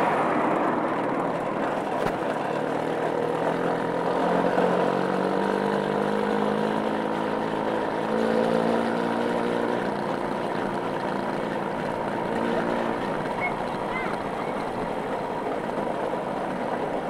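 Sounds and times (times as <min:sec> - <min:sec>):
wind and road noise: 0:00.0 - 0:17.0
motorcycle engine revving: 0:01.3 - 0:15.8.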